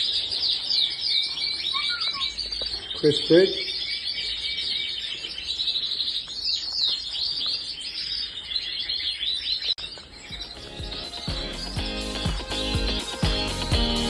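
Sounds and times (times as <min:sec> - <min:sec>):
canaries chirping: 0:00.0 - 0:14.0.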